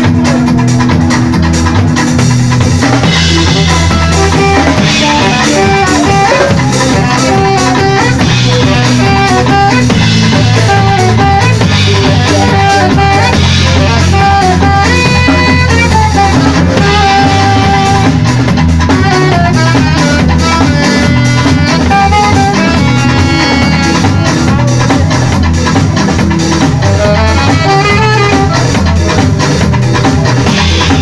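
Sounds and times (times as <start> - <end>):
bass: 0.0 - 31.0
drum kit beat: 0.0 - 31.0
guitar: 0.0 - 31.0.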